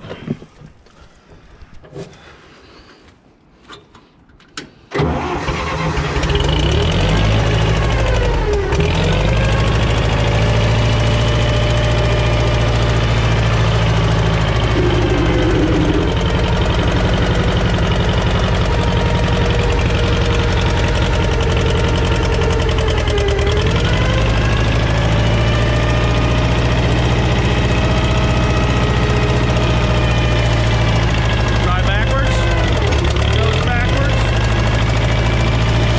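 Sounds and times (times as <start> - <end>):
engine cranking and starting: 4.6 - 35.9
engine running: 5.0 - 35.9.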